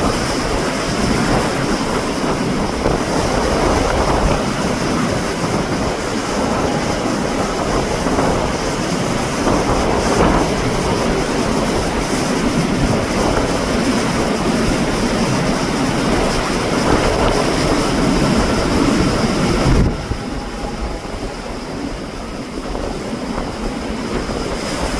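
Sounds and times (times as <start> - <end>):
rain: 0.0 - 24.9
strong wind gusts: 0.0 - 24.9
wind buffeting microphone: 0.0 - 24.9.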